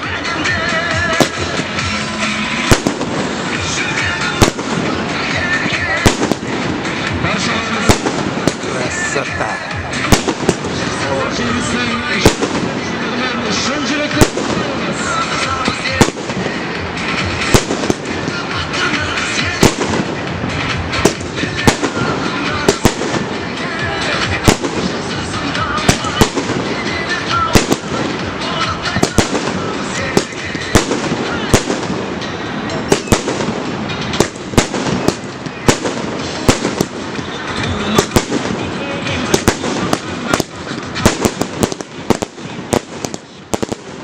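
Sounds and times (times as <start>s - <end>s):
firework shells bursting: 1.1s - 11.4s, 14.0s - 44.0s.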